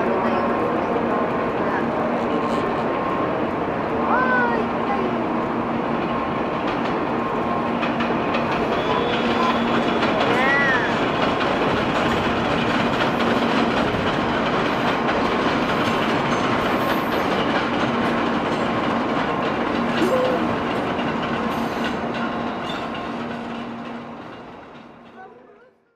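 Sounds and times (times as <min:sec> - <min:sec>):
train rumble and rail clatter: 0:00.0 - 0:25.9.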